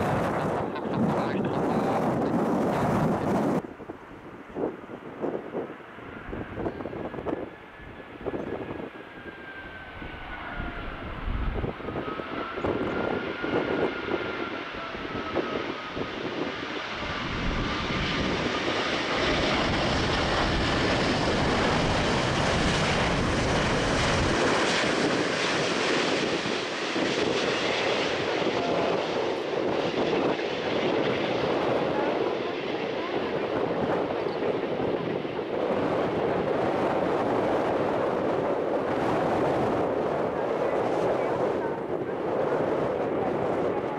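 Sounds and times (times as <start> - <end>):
jet engine whine: 0.0 - 43.9
jet rush: 4.6 - 43.9.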